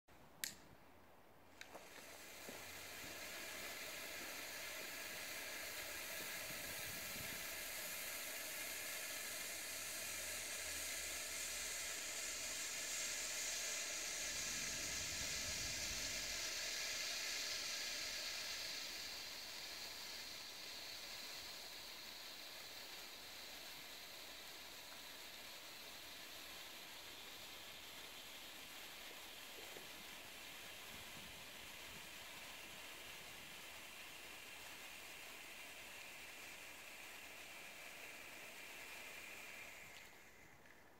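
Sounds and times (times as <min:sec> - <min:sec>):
flare burning with a hiss: 0:01.5 - 0:40.9.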